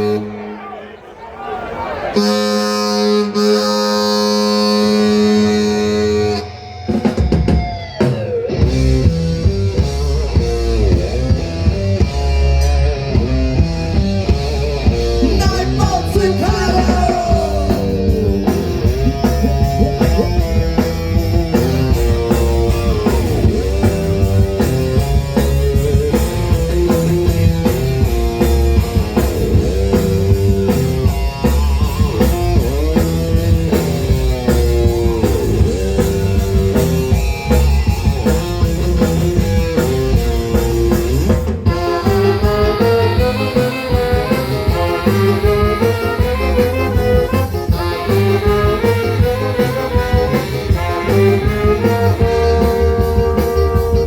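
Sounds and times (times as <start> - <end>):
live ska band playing: 0.0 - 0.7, 2.0 - 54.0.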